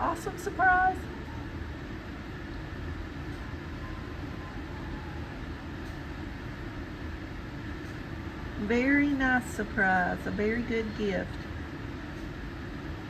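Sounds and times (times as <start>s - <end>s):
low mechanical rumble: 0.0s - 13.0s.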